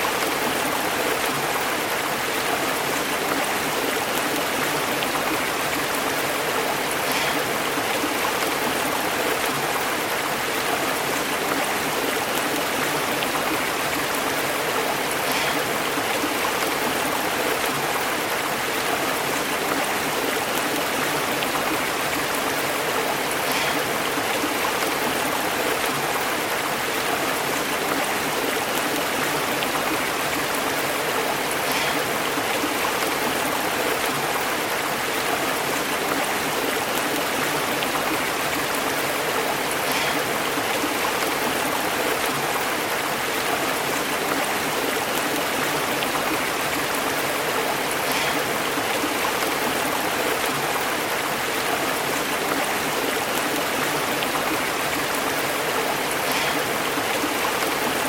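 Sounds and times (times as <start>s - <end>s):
stream burbling over rocks: 0.0s - 58.0s.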